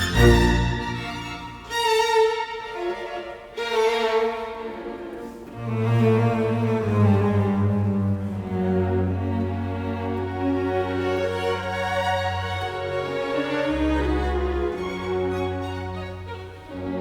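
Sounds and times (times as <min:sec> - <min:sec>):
low cello line: 0:00.0 - 0:17.0
slow bowed strings: 0:00.0 - 0:17.0.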